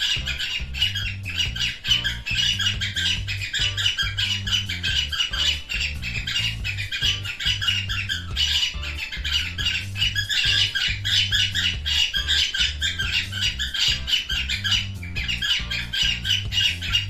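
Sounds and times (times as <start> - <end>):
background music with bass line: 0.0 - 17.0
cockatiel chirping and whistling: 0.0 - 17.0.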